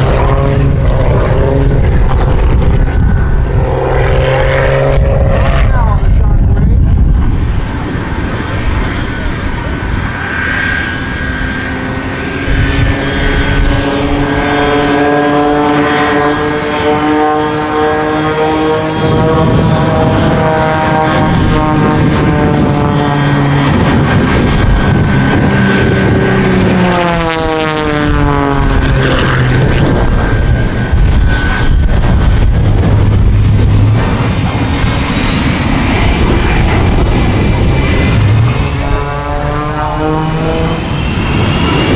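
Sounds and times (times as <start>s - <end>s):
jet engines roaring: 0.0s - 41.9s
propeller plane engine passing: 0.0s - 41.9s.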